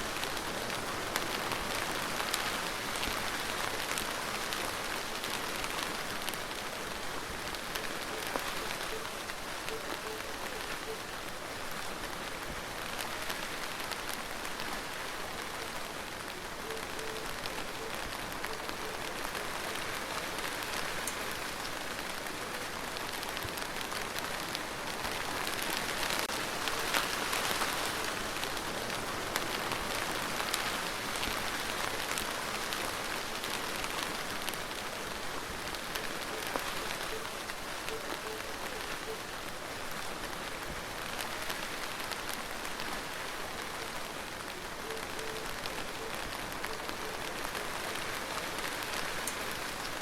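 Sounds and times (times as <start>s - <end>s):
raindrops ticking: 0.0s - 50.0s
steady rain hiss: 0.0s - 50.0s.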